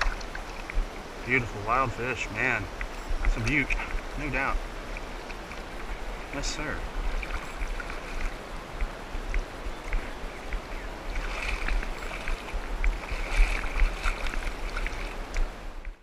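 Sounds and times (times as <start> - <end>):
creek water splashing: 0.0 - 16.0
wind rumbling on microphone: 0.0 - 16.0.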